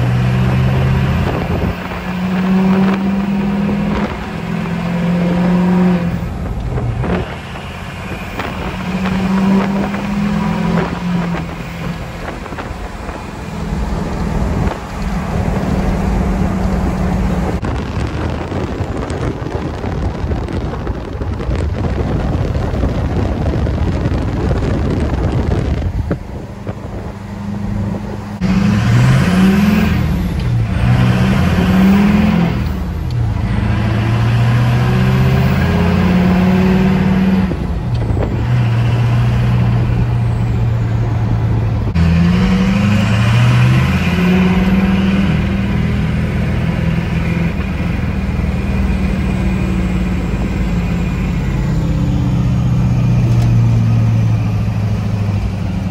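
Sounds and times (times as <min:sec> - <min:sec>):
diesel engine shifting gears: 0:00.0 - 0:55.9
wind and road noise: 0:00.0 - 0:55.9.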